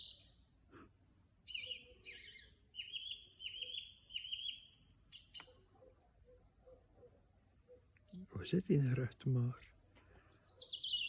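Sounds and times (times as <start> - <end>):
bird singing: 0.0 - 11.0.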